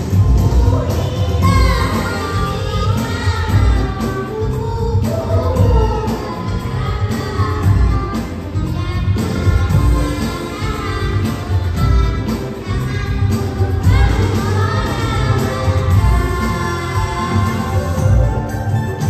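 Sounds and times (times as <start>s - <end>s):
amplified music with heavy bass: 0.0s - 19.0s
woman singing: 0.0s - 19.0s.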